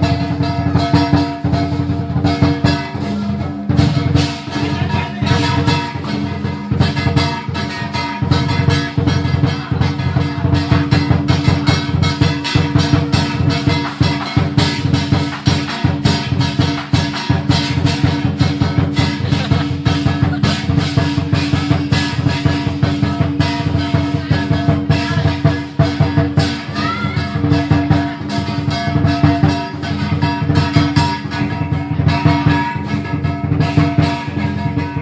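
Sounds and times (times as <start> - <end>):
fast dense drumming: 0.0 - 35.0.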